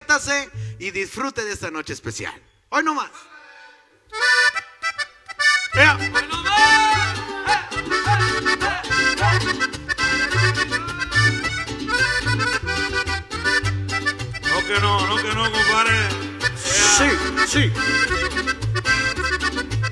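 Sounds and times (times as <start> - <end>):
accordion playing quick melody: 3.3 - 19.9
live band music: 3.4 - 19.9.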